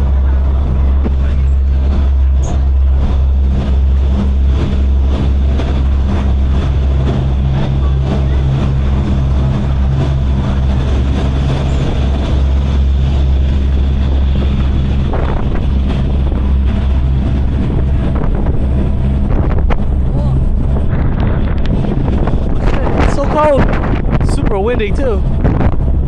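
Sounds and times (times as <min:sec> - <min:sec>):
ferry diesel engines droning: 0:00.0 - 0:26.0.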